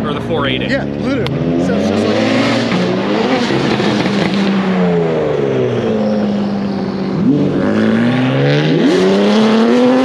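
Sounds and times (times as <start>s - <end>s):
sports car engine revving: 0.0s - 10.0s.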